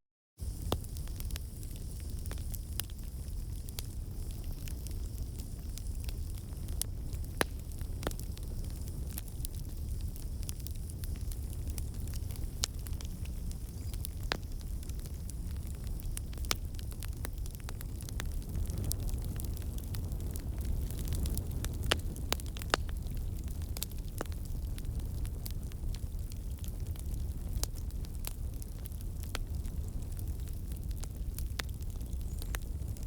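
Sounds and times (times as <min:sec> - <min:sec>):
fire pops and snaps: 0:00.4 - 0:33.0
wood fire crackling: 0:00.4 - 0:33.0.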